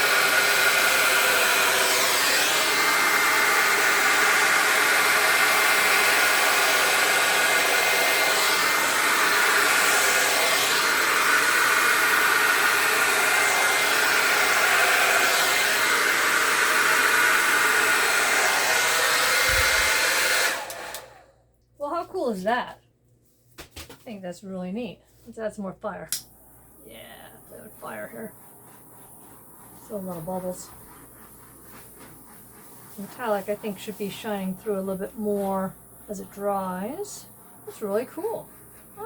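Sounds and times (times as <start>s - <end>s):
hair dryer running: 0.0s - 21.3s, 26.2s - 39.0s.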